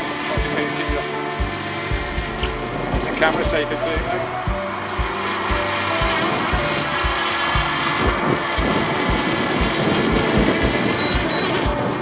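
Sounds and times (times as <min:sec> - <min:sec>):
music with thumping beat: 0:00.0 - 0:12.0.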